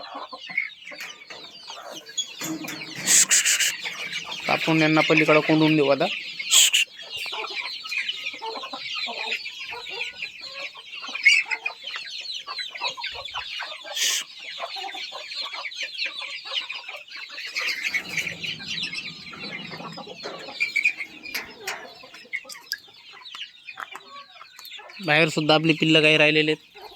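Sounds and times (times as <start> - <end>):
hens clucking: 0.0 - 25.4
chicks peeping: 0.0 - 26.9.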